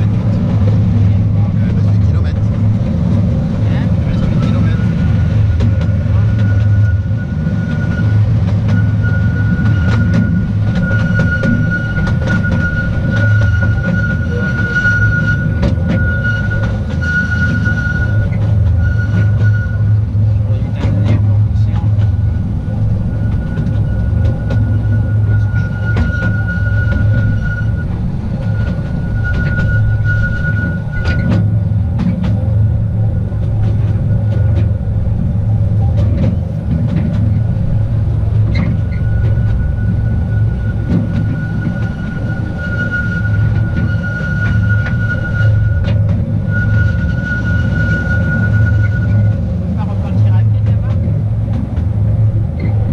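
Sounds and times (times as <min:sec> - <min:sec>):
high wheel squeal: 0:00.0 - 0:51.2, 0:52.0 - 0:52.9
rail clicks: 0:00.0 - 0:52.9
train wheels rumbling: 0:00.0 - 0:52.9.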